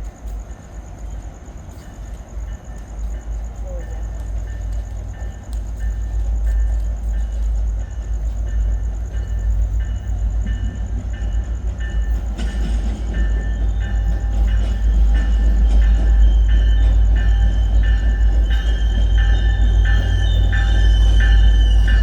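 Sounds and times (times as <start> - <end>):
diesel locomotive idling: 0.0 - 22.0
train bell ringing: 1.7 - 22.0.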